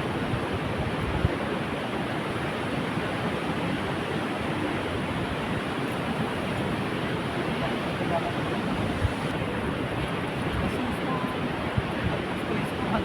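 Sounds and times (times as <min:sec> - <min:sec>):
wind buffeting microphone: 0:00.0 - 0:01.6, 0:02.4 - 0:13.0.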